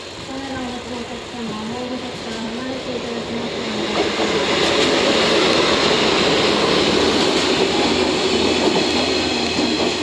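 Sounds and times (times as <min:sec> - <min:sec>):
diesel locomotive passing: 0:00.0 - 0:10.0
train wheels on rails: 0:00.0 - 0:10.0.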